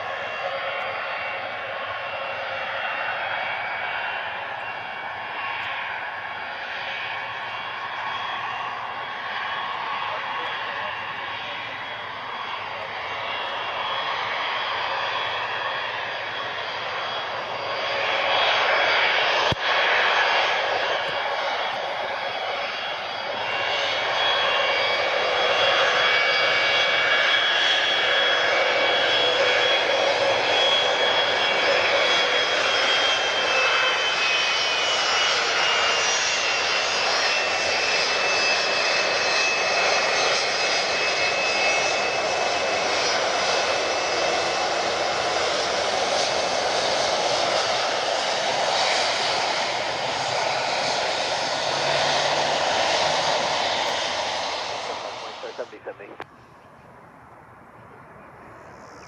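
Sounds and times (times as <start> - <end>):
jet engines roaring and whining: 0.0 - 59.0.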